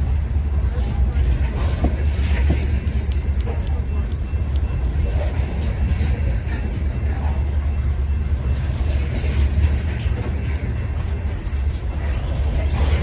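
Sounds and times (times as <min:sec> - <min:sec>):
train rolling past: 0:00.0 - 0:13.0.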